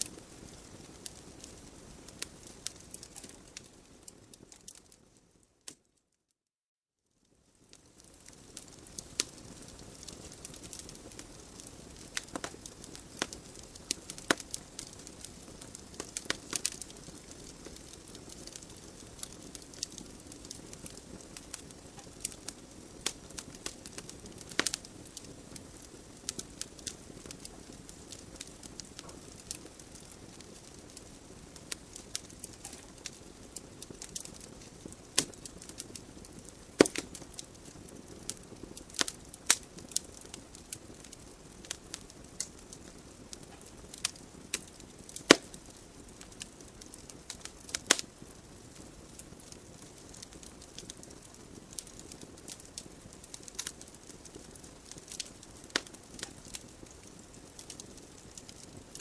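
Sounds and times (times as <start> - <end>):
fire crackling and popping: 0.0 - 5.9, 7.2 - 59.0
soft hiss of flames: 0.0 - 6.0, 7.1 - 59.0.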